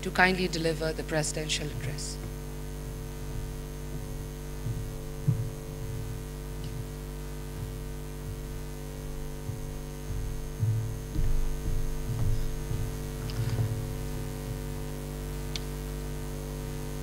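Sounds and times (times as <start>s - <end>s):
electrical mains hum: 0.0s - 17.0s
soft low thumps: 0.6s - 15.9s.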